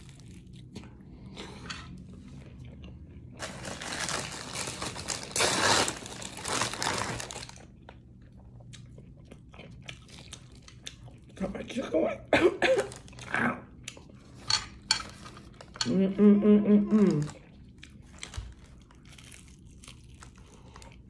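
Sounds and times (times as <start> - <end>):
crunching and chewing: 0.0 - 11.4, 12.8 - 15.9, 16.9 - 21.0.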